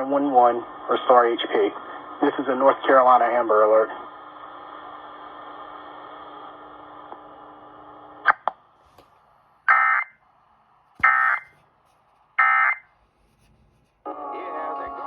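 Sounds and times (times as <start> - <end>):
radio hum and hiss: 0.0 - 15.0.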